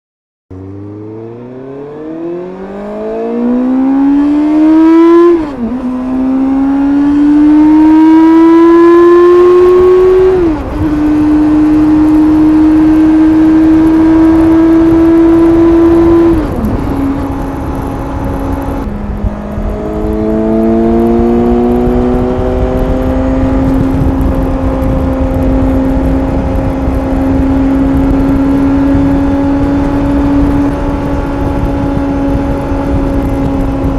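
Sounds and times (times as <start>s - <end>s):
motorcycle engine revving: 0.5s - 33.9s
wind rushing: 1.3s - 33.9s.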